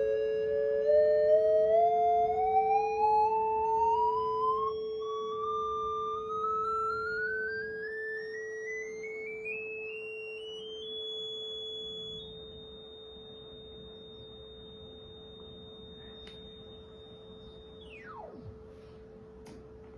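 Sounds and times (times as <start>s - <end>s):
rising and sweeping sine tone: 0.0s - 19.3s
steady low sine tone: 0.0s - 19.9s.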